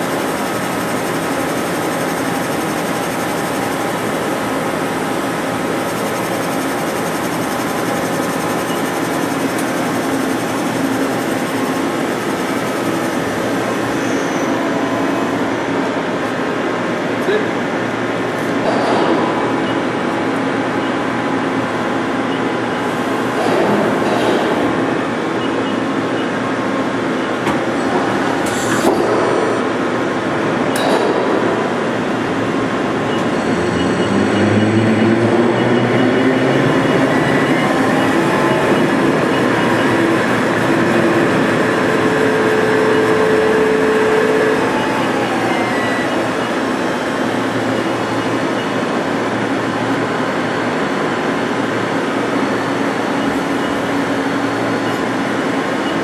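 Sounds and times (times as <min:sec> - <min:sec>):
lathe humming and whining: 0:00.0 - 0:30.8, 0:31.4 - 0:56.0.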